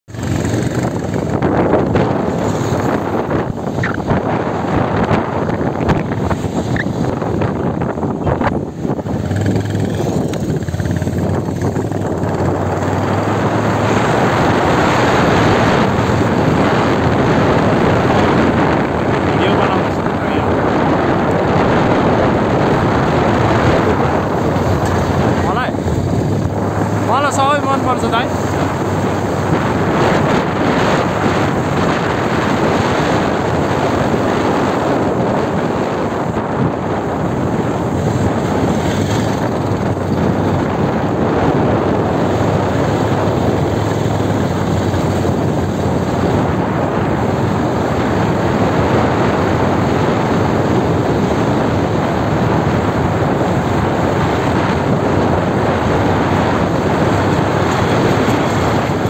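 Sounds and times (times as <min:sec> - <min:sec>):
moving vehicle noise: 0:00.0 - 0:59.0
wind rushing over microphone: 0:00.0 - 0:59.0
motorcycle engine running: 0:00.1 - 0:59.0.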